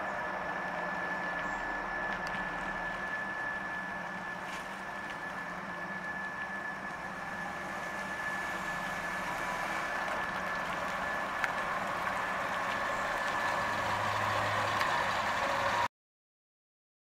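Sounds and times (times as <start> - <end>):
car engine driving slowly: 0.0 - 15.9.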